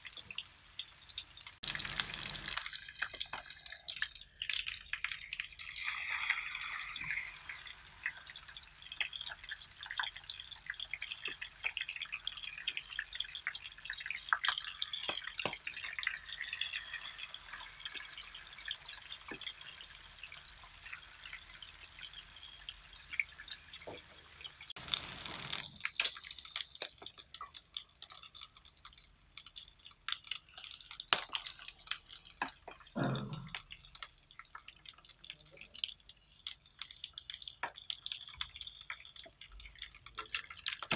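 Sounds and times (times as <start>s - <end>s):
meat sizzling in hot oil: 0.0s - 40.9s.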